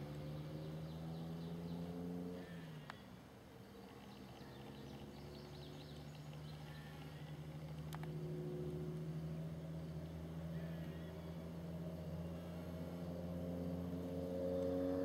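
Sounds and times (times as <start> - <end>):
distant motor humming: 0.0 - 15.0
small birds chirping: 0.0 - 15.0.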